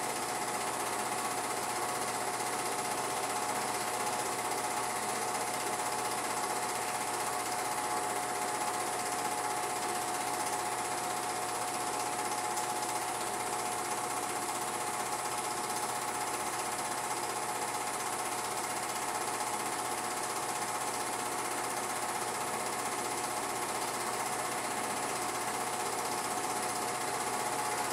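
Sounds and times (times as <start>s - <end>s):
film projector clattering: 0.0s - 27.9s.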